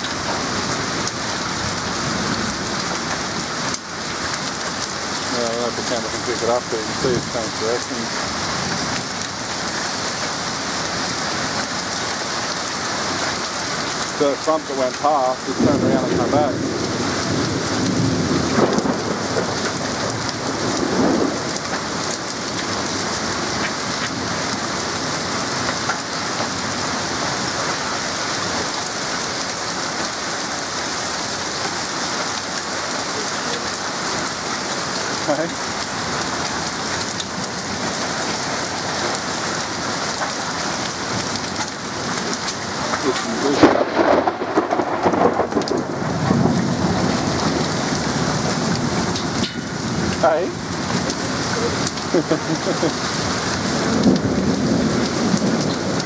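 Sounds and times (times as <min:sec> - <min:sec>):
rain and hail pelting: 0:00.0 - 0:56.0.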